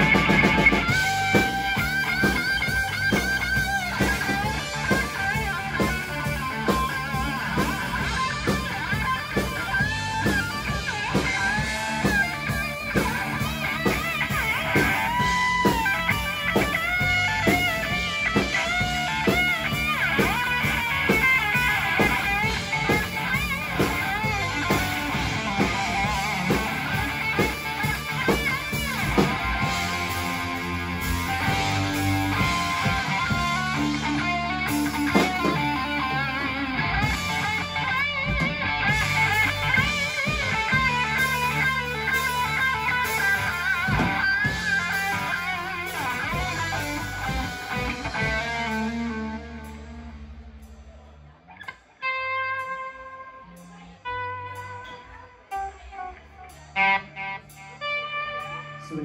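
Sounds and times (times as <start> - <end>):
steady drum beat: 0.0 - 50.1
electric guitar lead with bent notes: 0.0 - 50.8, 51.4 - 59.0.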